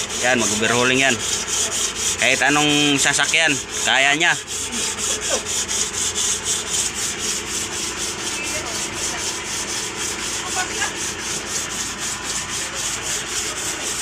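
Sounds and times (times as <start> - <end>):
hand scrubbing metal: 0.0 - 14.0.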